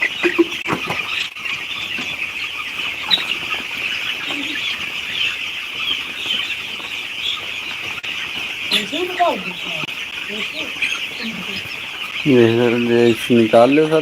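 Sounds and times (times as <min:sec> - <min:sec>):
chicken clucks: 0:00.0 - 0:14.0
chicks cheeping: 0:00.0 - 0:14.0.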